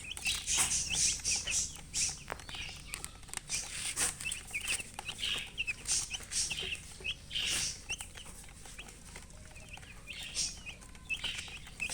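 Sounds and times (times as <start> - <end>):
chicks peeping: 0.0 - 11.9.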